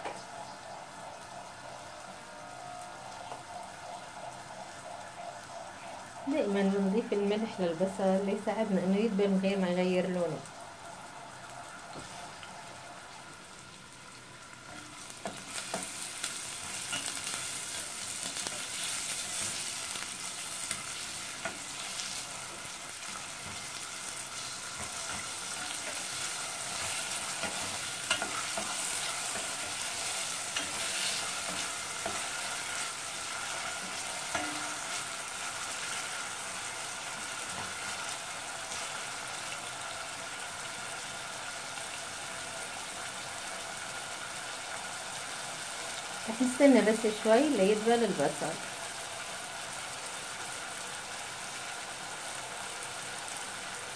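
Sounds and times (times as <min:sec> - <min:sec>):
onion sizzling in oil: 0:00.0 - 0:53.9.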